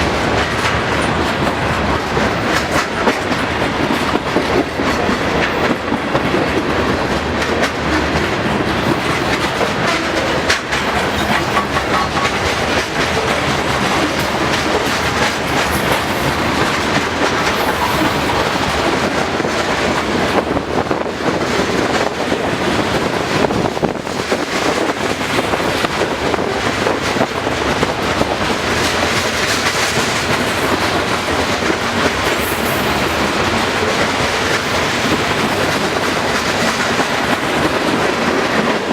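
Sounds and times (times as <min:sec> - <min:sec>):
steel wheels rumbling on rail: 0:00.0 - 0:38.9
wheels clicking over rail joints: 0:00.0 - 0:38.9.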